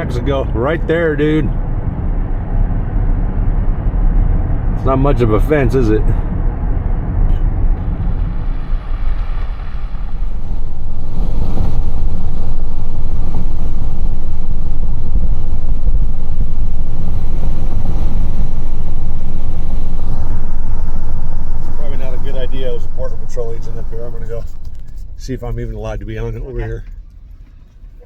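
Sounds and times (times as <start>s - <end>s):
car road and wind rumble: 0.0s - 28.0s.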